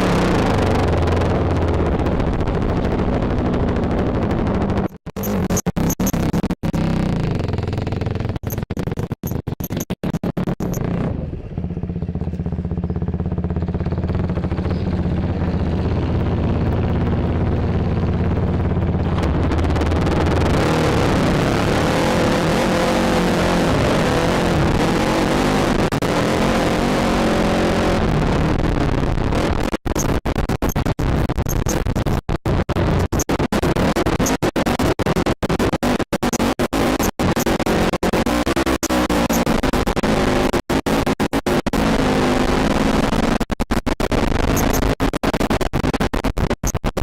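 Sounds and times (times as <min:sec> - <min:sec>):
atv engine running: 0:00.0 - 0:43.5, 0:44.2 - 0:45.6.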